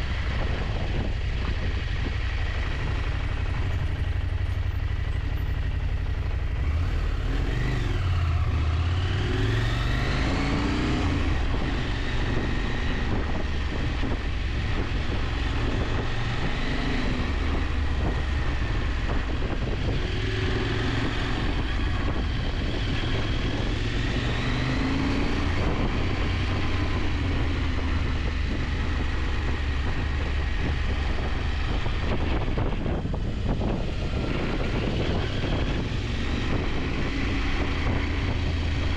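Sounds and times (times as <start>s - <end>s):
motorcycle engine revving: 0.0s - 38.9s
wind noise: 0.0s - 38.9s.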